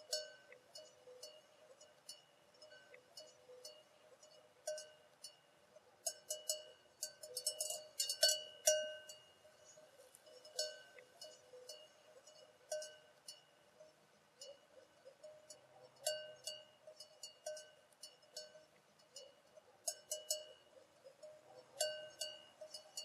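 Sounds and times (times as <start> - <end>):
metal livestock bells clanking: 0.0 - 23.0.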